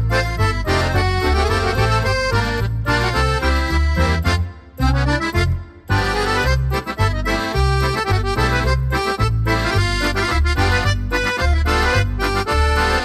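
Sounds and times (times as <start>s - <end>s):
lively accordion music: 0.0s - 13.0s.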